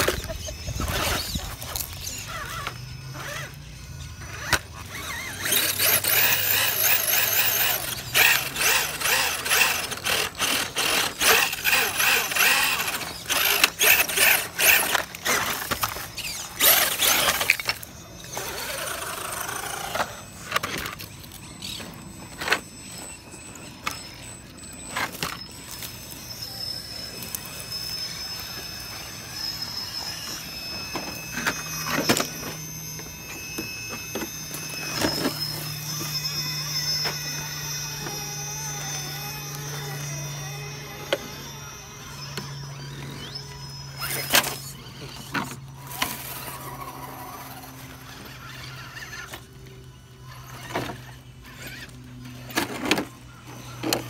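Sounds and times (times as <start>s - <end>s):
electric motors whining: 0.0s - 54.0s.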